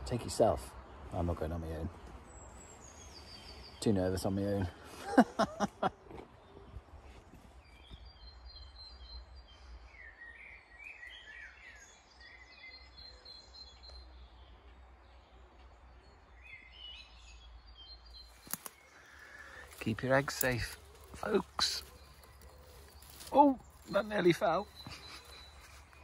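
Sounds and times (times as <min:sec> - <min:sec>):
faint birdsong chirping: 0:00.0 - 0:26.0.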